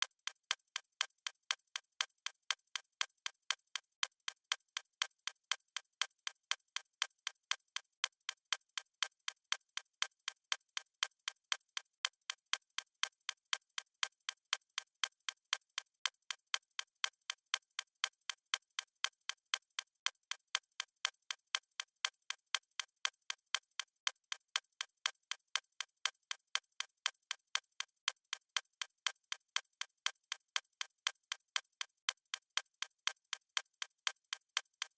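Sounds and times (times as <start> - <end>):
stopwatch ticking: 0.0 - 34.9.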